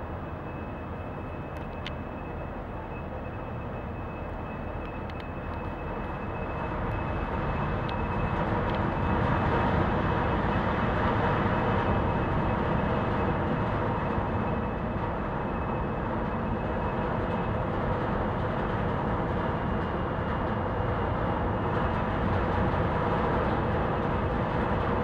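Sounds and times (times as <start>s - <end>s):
ship engines droning: 0.0s - 25.0s.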